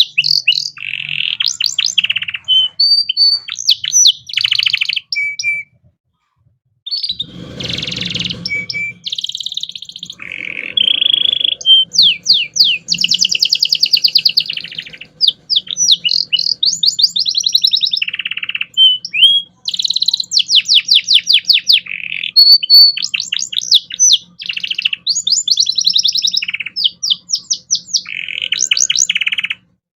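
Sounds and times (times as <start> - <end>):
canary singing trills: 0.0 - 5.9, 6.9 - 29.8.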